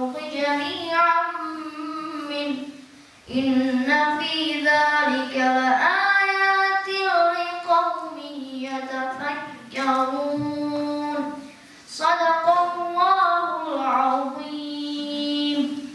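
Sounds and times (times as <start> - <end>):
boy chanting melodically: 0.0 - 15.9.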